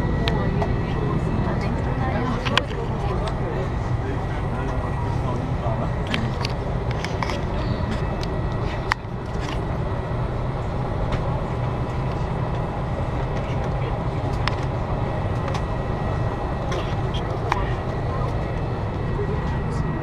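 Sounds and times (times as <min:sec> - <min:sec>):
airliner cabin engine rumble: 0:00.0 - 0:20.0
faint passenger chatter: 0:00.0 - 0:20.0.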